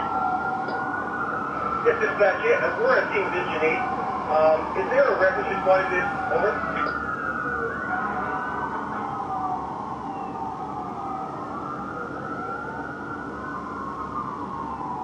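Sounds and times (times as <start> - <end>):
fire truck sirens wailing: 0.0 - 15.0.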